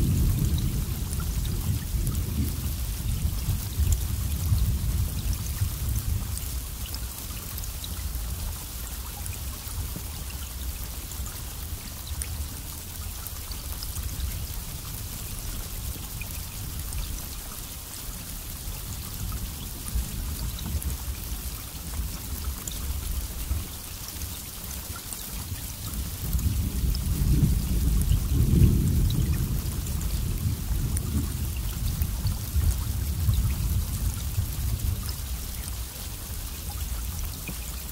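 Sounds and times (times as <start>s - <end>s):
heavy rain: 0.0s - 37.9s
raindrops pattering: 0.0s - 37.9s.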